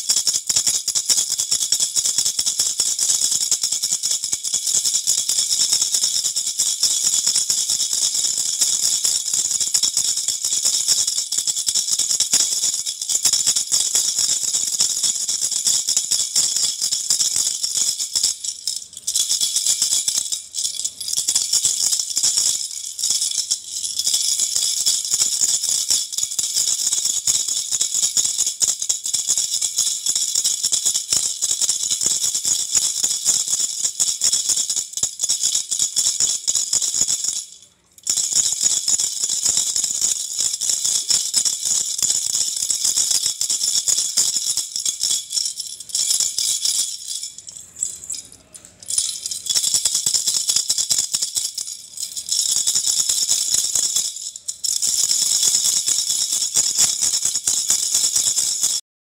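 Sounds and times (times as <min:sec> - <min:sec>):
plastic baby rattle shaking: 0:00.0 - 0:58.8.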